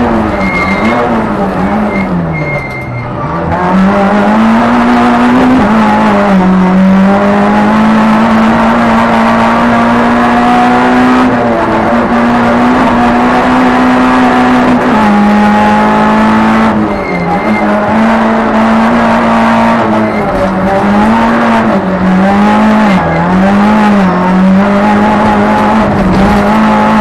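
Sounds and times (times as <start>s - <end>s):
race car engine at high revs: 0.0s - 2.4s, 3.1s - 27.0s.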